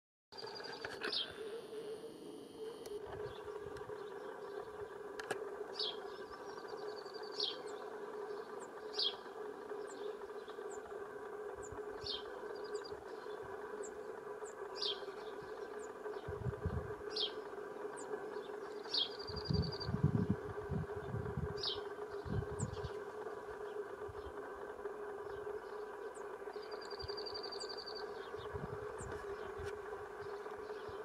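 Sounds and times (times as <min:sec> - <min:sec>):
bird chirping: 0:00.4 - 0:02.0, 0:02.6 - 0:31.0
steady low hum: 0:00.4 - 0:31.0.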